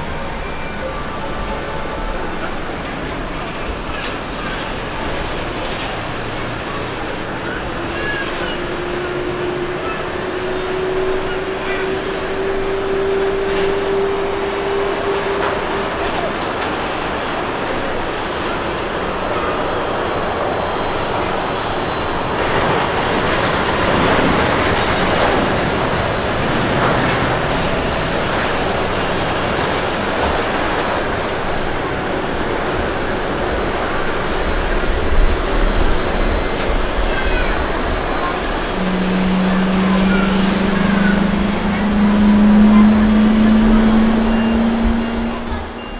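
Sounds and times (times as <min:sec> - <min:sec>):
jet engine whine: 0:00.0 - 0:45.9.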